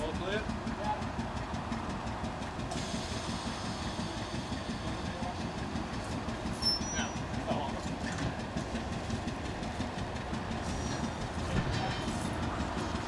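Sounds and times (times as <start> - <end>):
train engine idling: 0.0 - 13.0.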